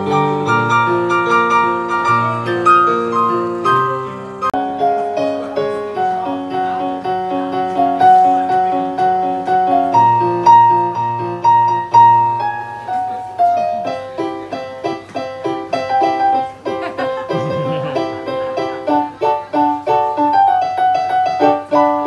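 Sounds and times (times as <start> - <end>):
solo piano: 0.0 - 22.0.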